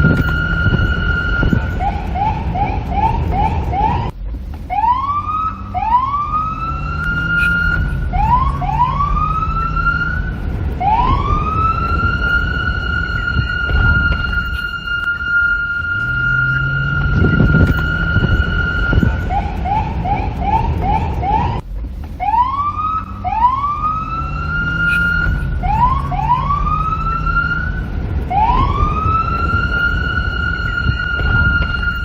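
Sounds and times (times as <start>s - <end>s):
low rumble: 0.0s - 32.0s
police siren: 0.0s - 32.0s.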